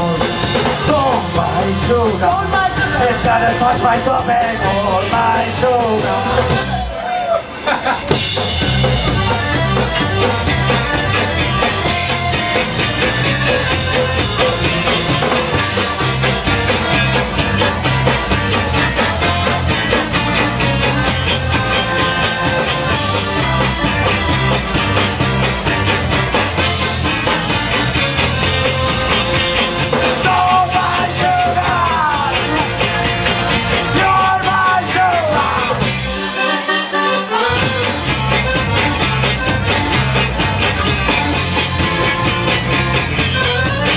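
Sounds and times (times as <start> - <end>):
upbeat rock band playing: 0.0 - 43.9.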